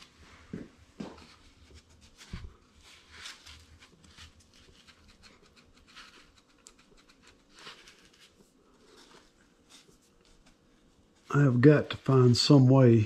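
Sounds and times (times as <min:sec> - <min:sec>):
hands scratching and rustling: 0:01.0 - 0:12.2.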